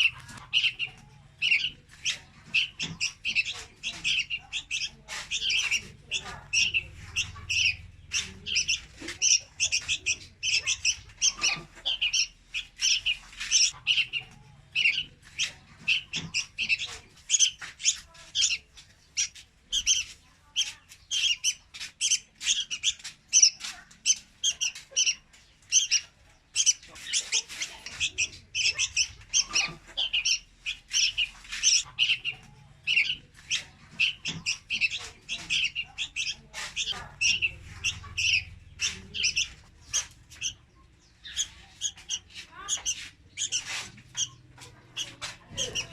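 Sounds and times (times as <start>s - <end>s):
bird chirping rapidly: 0.0s - 45.9s.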